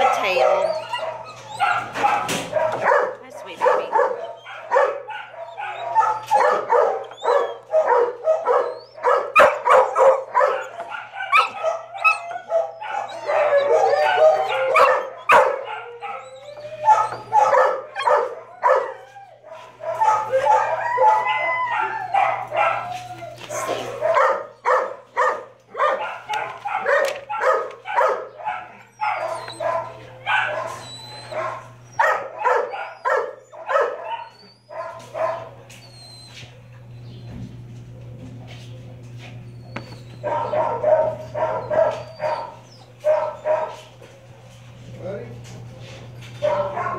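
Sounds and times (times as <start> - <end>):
dogs howling: 0.0 - 38.2, 38.8 - 46.9
dogs barking and yipping: 0.0 - 46.9.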